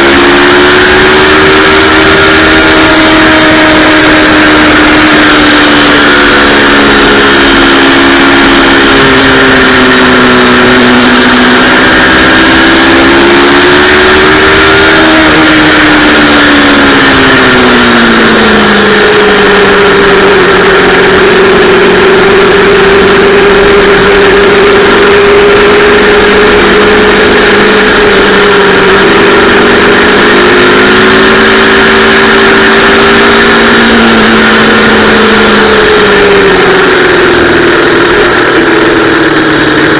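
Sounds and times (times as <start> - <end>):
loud rushing noise: 0.0 - 39.9
motorcycle engine: 0.0 - 39.9.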